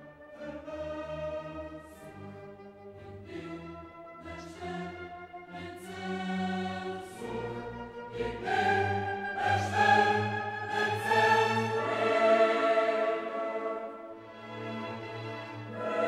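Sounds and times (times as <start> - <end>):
orchestral music with choir: 0.0 - 16.0.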